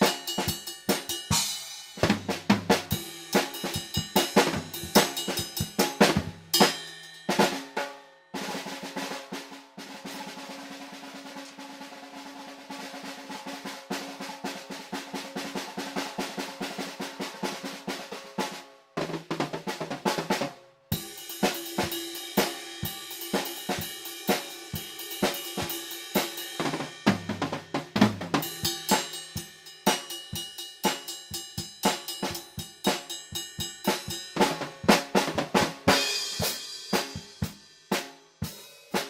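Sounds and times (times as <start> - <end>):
drum beats with cymbals: 0.0 - 39.0
drum roll: 0.0 - 39.0.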